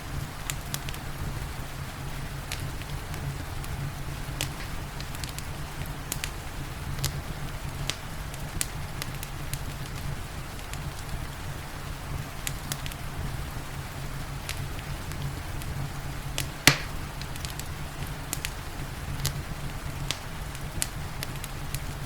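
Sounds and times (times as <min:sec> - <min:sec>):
rain hissing: 0:00.0 - 0:22.0
wood fire crackling and snapping: 0:00.1 - 0:22.0.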